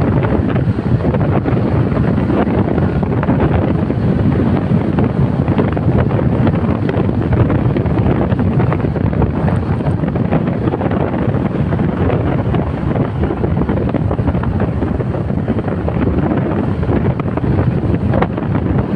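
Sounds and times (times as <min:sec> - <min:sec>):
car road noise: 0:00.0 - 0:18.9
wind buffeting microphone: 0:00.0 - 0:18.9.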